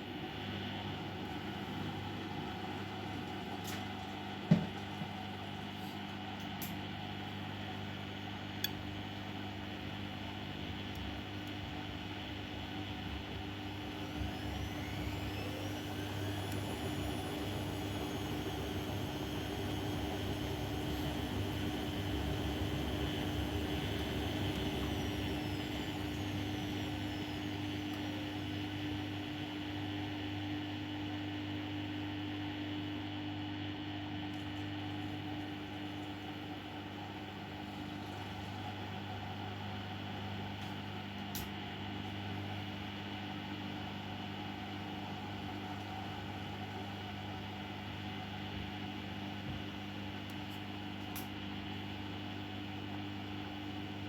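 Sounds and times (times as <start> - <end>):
washing machine motor hum: 0.0 - 5.8, 7.2 - 33.2, 34.1 - 54.0.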